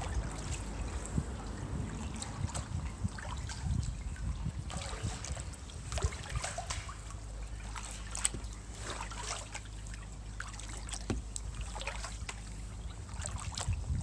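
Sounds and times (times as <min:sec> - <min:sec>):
low steady rumble: 0:00.0 - 0:14.0
paddle water drips and splashes: 0:00.0 - 0:14.0.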